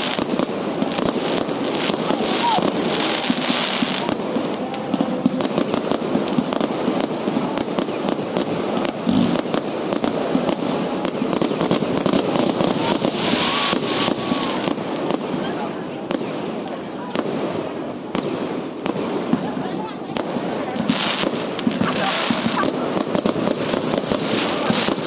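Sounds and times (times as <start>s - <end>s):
fireworks cracks and bangs: 0.0s - 25.0s.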